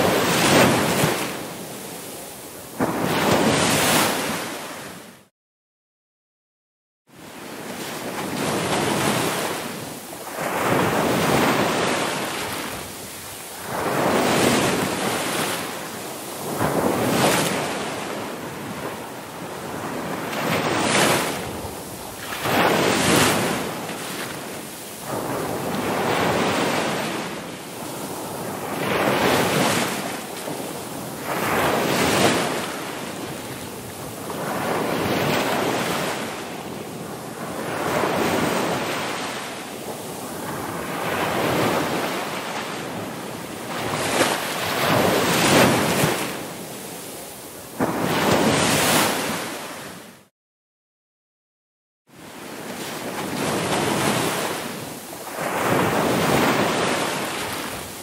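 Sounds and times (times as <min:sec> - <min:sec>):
ocean waves breaking: 0:00.0 - 0:05.2, 0:07.2 - 0:50.3, 0:52.2 - 0:58.0.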